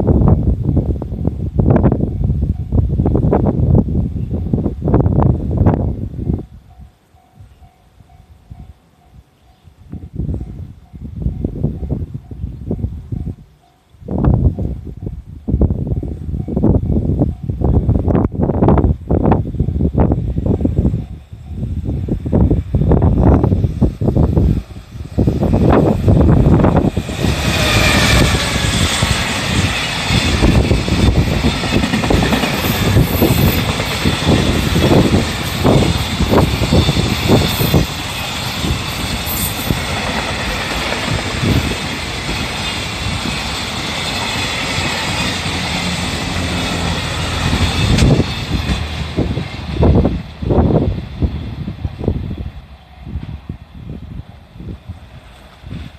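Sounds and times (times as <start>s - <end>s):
freight train wheels rumbling: 0.0s - 55.9s.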